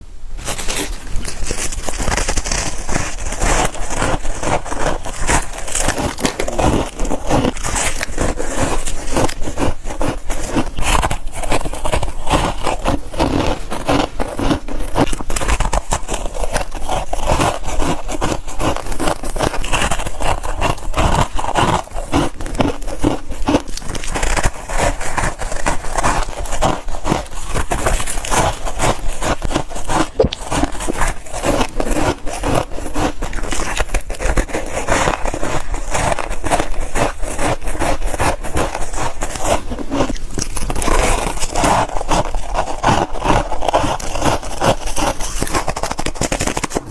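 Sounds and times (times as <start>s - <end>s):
frost being chewed with crunches: 0.4s - 46.9s.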